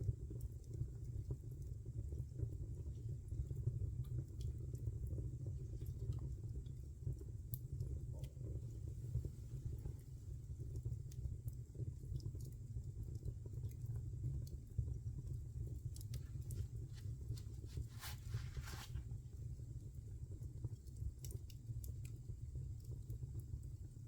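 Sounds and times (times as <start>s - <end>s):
low fire rumble: 0.0s - 24.0s
fire crackling and popping: 0.1s - 24.0s.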